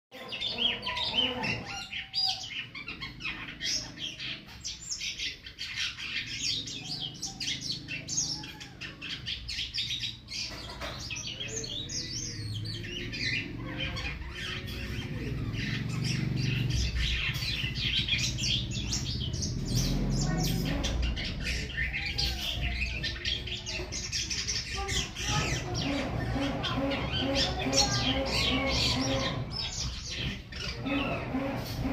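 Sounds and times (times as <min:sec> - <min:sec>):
starling singing: 0:00.1 - 0:31.9.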